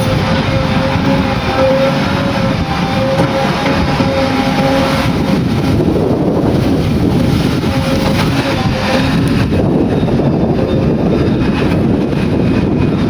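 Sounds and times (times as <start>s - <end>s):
constant whine: 0.0s - 13.0s
diesel engine running: 0.0s - 13.0s.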